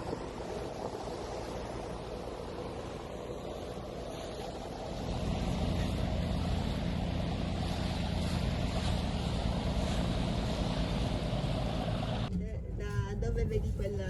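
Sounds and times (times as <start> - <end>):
boat diesel engine drone: 0.0 - 14.0.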